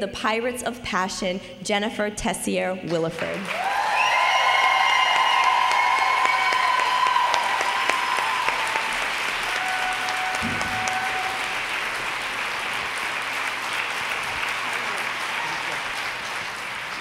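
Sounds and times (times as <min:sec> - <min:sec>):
audience applauding: 0:03.4 - 0:17.0.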